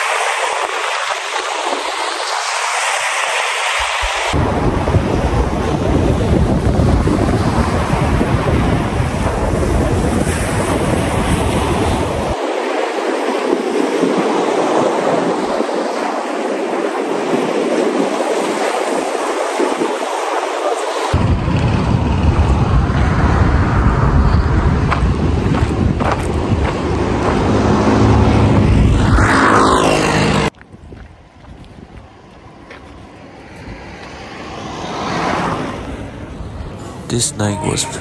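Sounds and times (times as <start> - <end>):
sea surf on sandy beach: 0.0 - 30.5, 31.2 - 38.0
wind buffeting microphone: 4.1 - 37.0.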